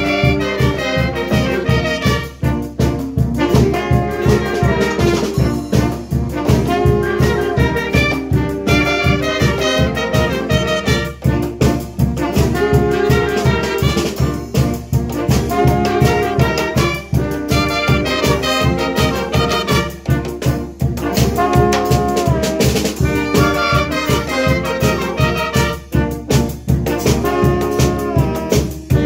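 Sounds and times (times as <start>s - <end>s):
wind and brass band playing: 0.0s - 29.0s.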